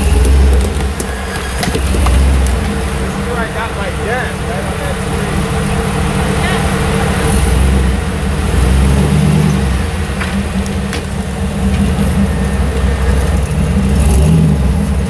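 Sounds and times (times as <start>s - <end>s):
vehicle engine working at low speed: 0.0s - 15.0s.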